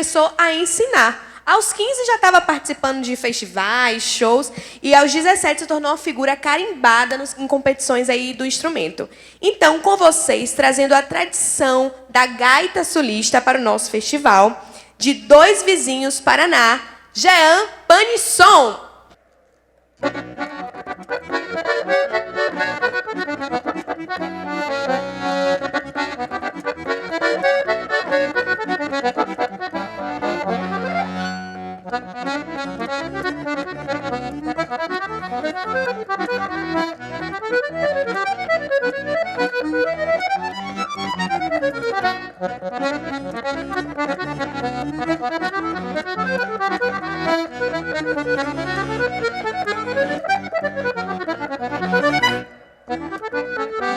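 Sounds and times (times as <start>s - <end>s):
accordion playing: 0.0s - 19.2s, 19.9s - 53.9s.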